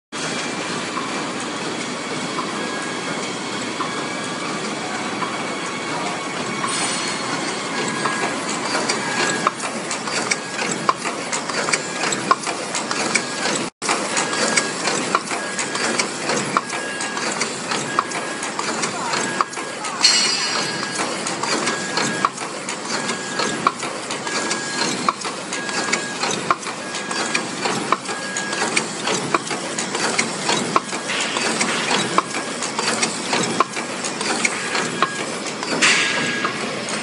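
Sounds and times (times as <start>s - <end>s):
machine clattering: 3.1s - 37.0s
sharp machine clicks: 6.4s - 37.0s.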